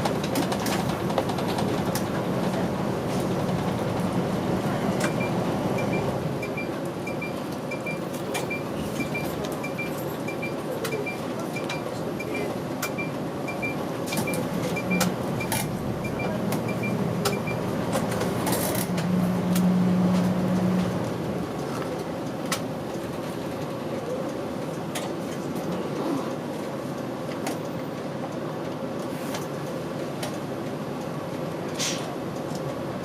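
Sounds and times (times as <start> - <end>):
bus engine and road noise: 0.0 - 33.0.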